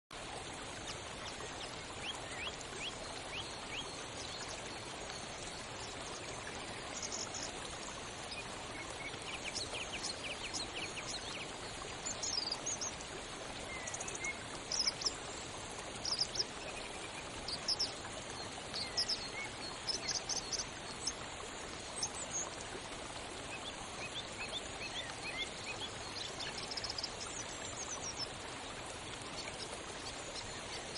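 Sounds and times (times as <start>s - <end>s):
small birds chirping: 0.7s - 22.6s, 23.4s - 30.9s.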